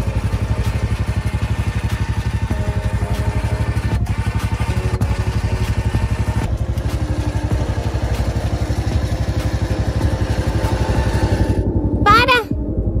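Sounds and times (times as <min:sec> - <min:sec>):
buggy engine idling: 0:00.0 - 0:12.3.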